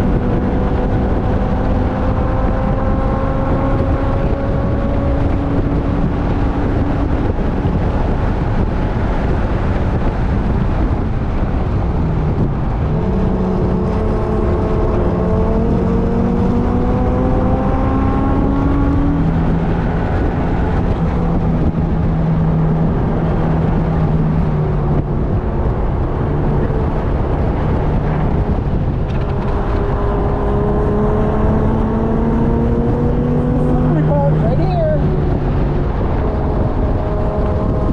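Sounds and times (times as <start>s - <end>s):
race car engine accelerating: 0.0s - 37.9s
wind and road noise: 0.0s - 37.9s.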